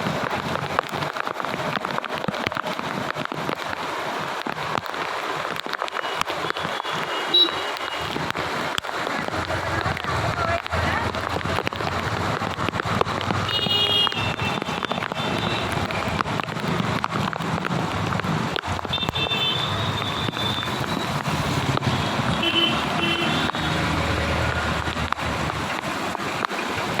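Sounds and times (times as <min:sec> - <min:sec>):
road traffic on wet street: 0:00.0 - 0:27.0
steady rain: 0:00.0 - 0:27.0.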